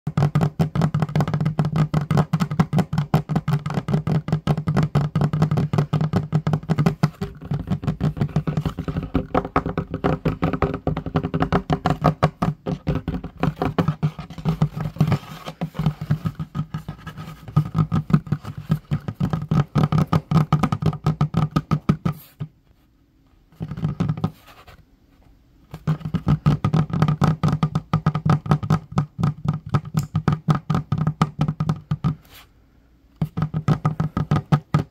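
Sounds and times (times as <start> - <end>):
fingertips tapping on wooden table: 0.1 - 22.5, 25.7 - 32.4, 33.2 - 34.9.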